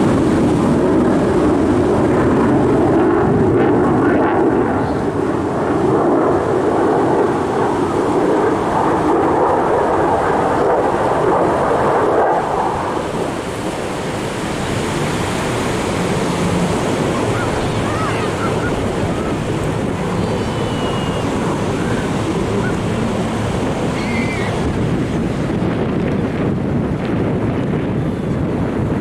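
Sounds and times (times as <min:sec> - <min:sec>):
aircraft rumbling roar: 0:00.0 - 0:29.0.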